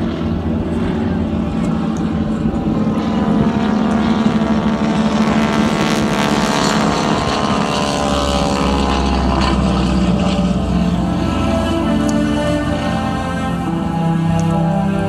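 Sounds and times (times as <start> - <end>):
propeller plane flying overhead: 0.0 - 15.0.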